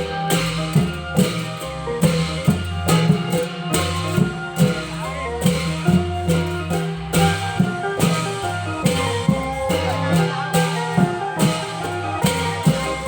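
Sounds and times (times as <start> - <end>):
drum strokes: 0.0 - 13.0
held bass line: 0.0 - 13.0
plucked string melody: 0.0 - 13.0.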